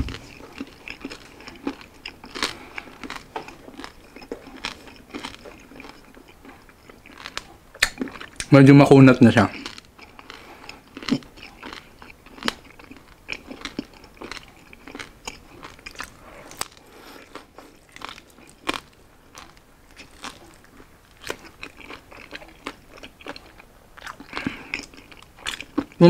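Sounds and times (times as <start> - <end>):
crunching and chewing pork: 0.0 - 26.0.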